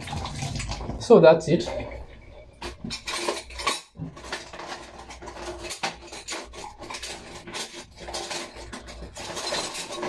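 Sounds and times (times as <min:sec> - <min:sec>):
utensil clinking and scraping bowl: 0:00.0 - 0:10.0.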